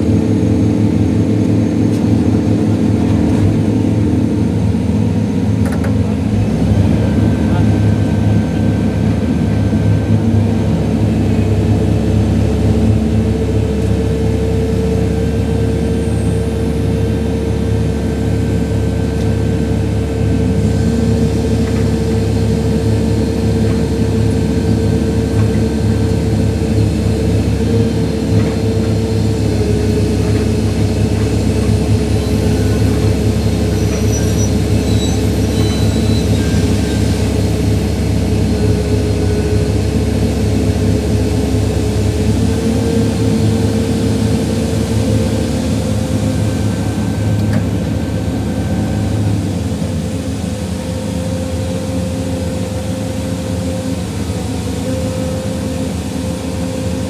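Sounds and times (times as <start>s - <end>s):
heavy diesel truck engine running: 0.0s - 57.0s.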